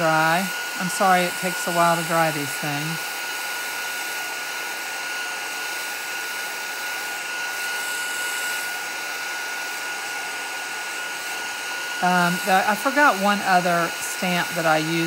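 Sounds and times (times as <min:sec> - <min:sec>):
heat tool blowing air: 0:00.0 - 0:15.0.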